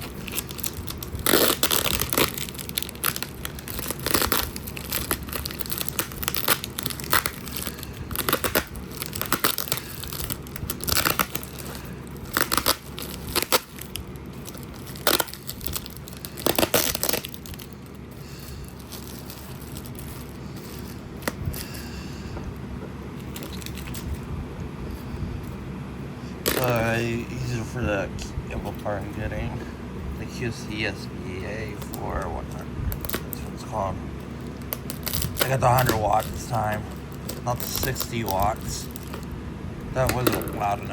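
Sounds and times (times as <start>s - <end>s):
packing material crinkling and tearing: 0.0s - 22.0s, 23.1s - 24.3s, 26.3s - 27.6s, 30.3s - 40.9s.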